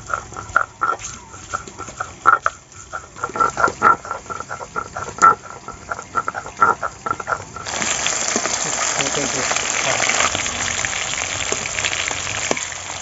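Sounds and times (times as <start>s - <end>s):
stone roller scraping on slab: 0.0s - 12.7s
fish sizzling in hot oil: 0.1s - 13.0s.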